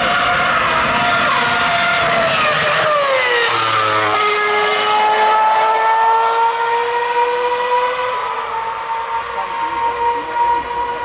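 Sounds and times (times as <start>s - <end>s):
racing car engine revving: 0.0s - 11.0s.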